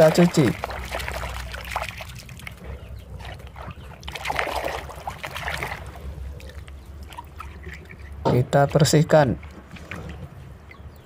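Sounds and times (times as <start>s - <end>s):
water sloshing in a bucket: 0.0s - 11.0s.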